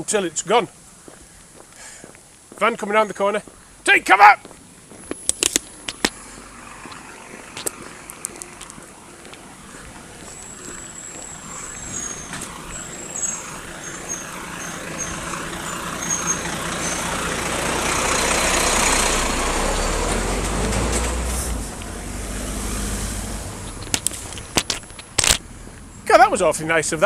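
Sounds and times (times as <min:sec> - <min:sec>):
truck passing slowly: 0:00.7 - 0:27.0.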